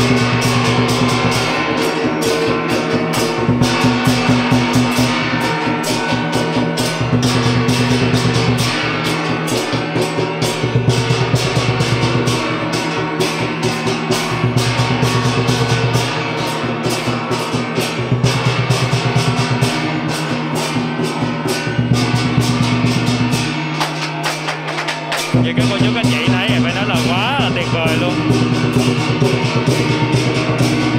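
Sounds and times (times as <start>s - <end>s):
music with fast drums: 0.0s - 30.9s.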